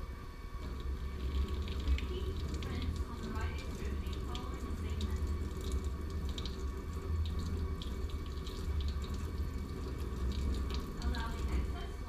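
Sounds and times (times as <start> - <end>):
splashes of rinsing: 0.6 - 12.0
steady low rumble: 0.6 - 12.0
water running into steel basin: 0.6 - 12.0.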